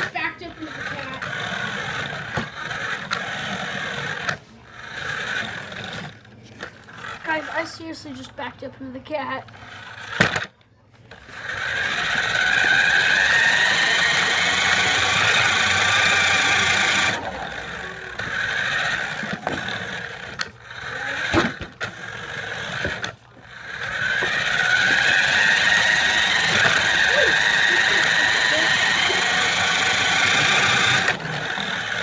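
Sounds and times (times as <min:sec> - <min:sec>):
toy car motor whining: 0:00.0 - 0:32.0.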